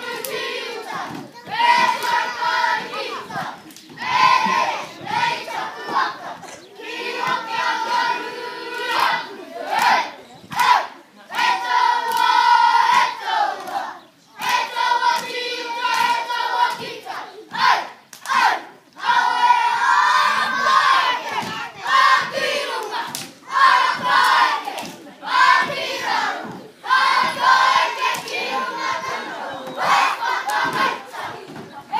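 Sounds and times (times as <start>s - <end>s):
boys chanting in unison: 0.0s - 31.9s.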